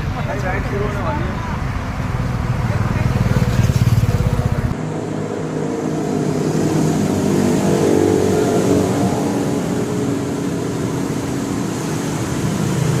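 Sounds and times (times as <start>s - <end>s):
motorcycle engine revving: 2.3s - 13.0s.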